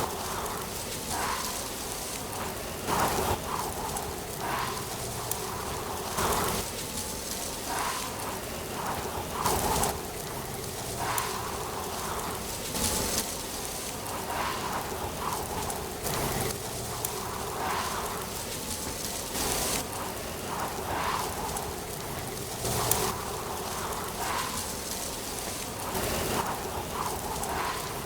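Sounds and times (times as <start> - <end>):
wind rustling dry leaves: 0.0 - 28.0.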